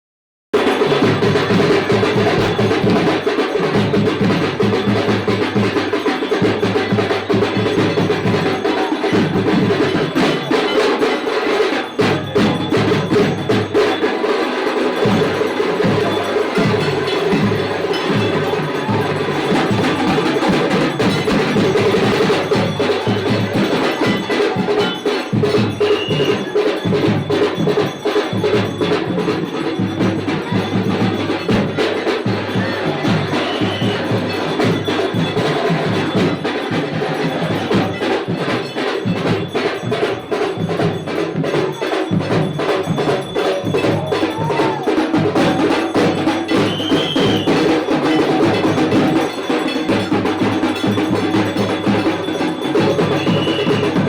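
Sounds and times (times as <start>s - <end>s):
bells and drums struck rapidly: 0.5s - 54.0s
steady ringing of bells: 0.6s - 54.0s.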